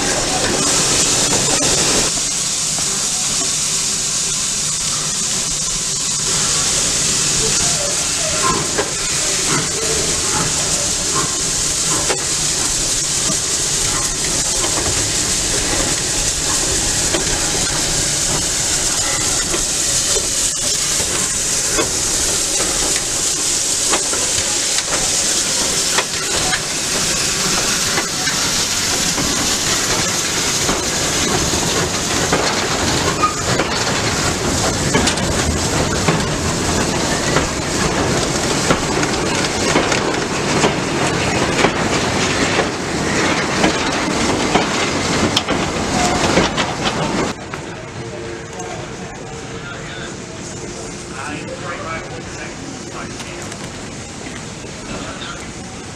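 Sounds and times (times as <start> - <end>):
wagon wheels clattering over rails: 0.0 - 3.7, 6.3 - 47.8
steam locomotive hissing: 0.0 - 55.9.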